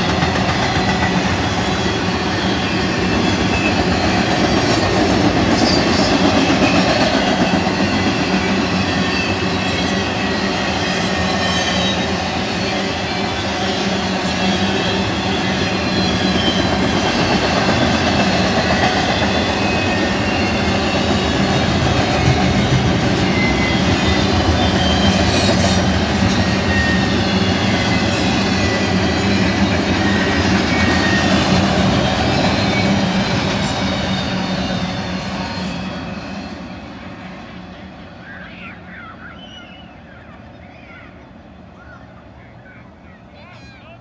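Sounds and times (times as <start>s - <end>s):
freight train wheels rumbling: 0.0s - 44.0s
wheel squeals: 0.6s - 37.8s.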